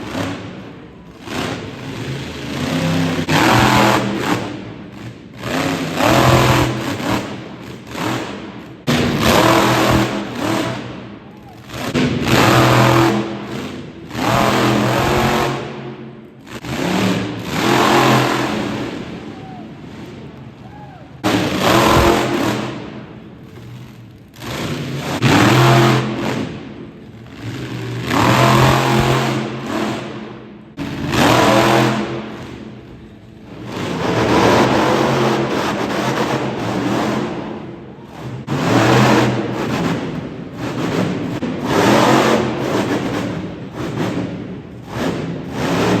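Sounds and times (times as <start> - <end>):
monster truck engine revving: 0.0 - 46.0.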